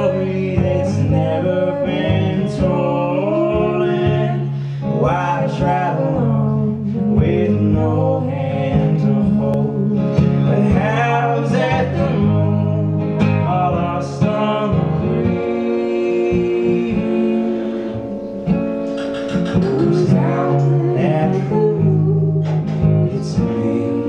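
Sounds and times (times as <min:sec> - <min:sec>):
acoustic guitar strummed: 0:00.0 - 0:24.0
person singing: 0:00.0 - 0:24.0.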